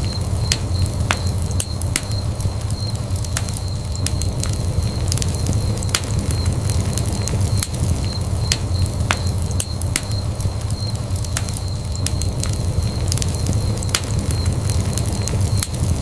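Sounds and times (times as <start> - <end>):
fireplace fire crackling and popping: 0.0 - 16.0.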